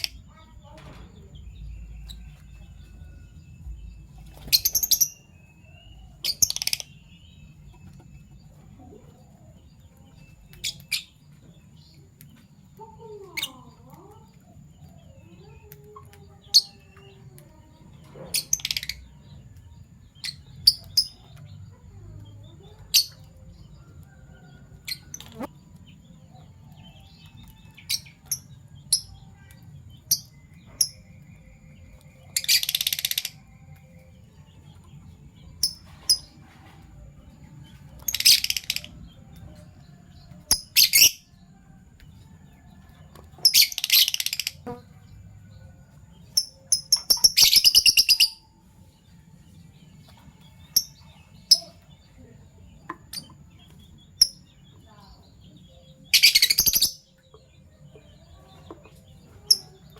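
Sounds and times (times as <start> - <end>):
lovebirds shrill chattering: 0.0 - 37.0, 37.6 - 41.4, 43.3 - 45.3, 46.2 - 48.6, 50.0 - 59.9
lovebirds chirping: 0.0 - 59.9.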